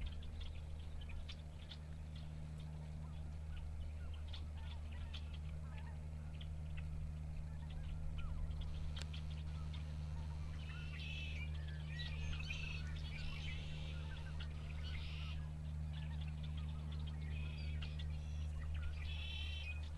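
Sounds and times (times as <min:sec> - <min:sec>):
blackbirds chirping and trilling: 0:00.0 - 0:19.9
steady low hum: 0:00.0 - 0:19.9.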